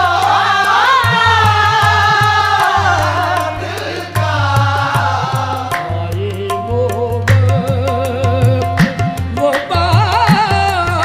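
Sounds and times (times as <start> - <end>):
tabla: 0.0 - 11.0.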